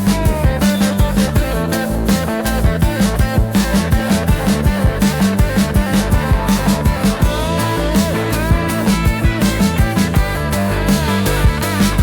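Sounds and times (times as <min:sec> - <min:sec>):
psychedelic rock instrumental: 0:00.0 - 0:12.0.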